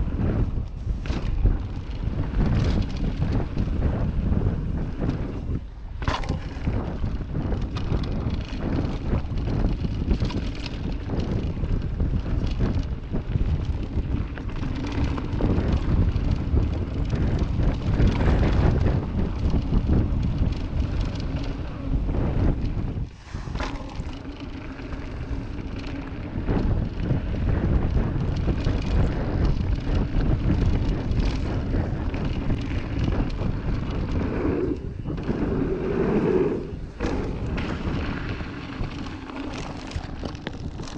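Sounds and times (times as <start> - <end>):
bike knocks and rattles: 0.0 - 36.1, 36.8 - 40.9
bike tyres rumbling on dirt: 0.0 - 40.9
wind buffeting microphone: 0.0 - 40.9.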